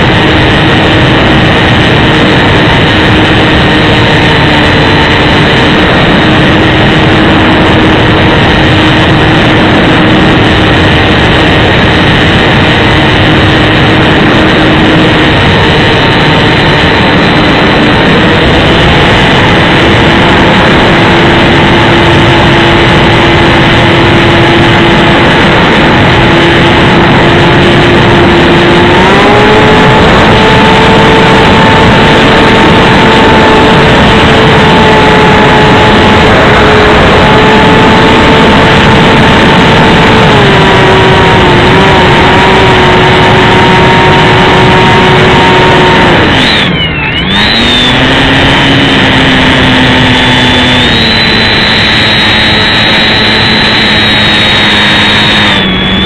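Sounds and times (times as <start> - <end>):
electric motor and propeller whine: 0.0 - 56.0
wind rush on microphone: 0.0 - 56.0.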